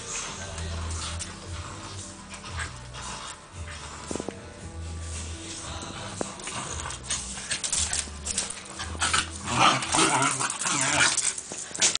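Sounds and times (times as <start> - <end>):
dogs panting and whining: 0.0 - 12.0
dogs scuffling and scratching: 0.0 - 12.0.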